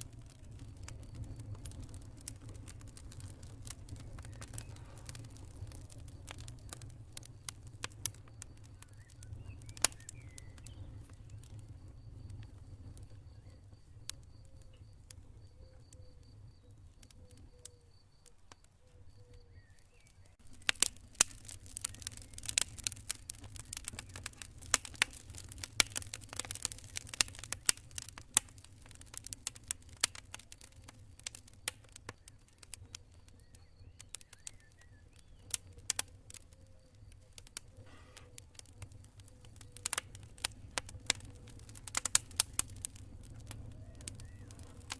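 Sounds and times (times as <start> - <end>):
campfire crackling and popping: 0.0 - 44.9
low rumble of flames: 0.0 - 44.9.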